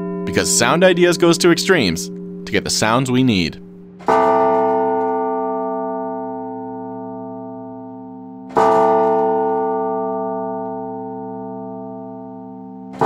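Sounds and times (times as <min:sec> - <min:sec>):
large bell tolling: 0:00.0 - 0:13.0.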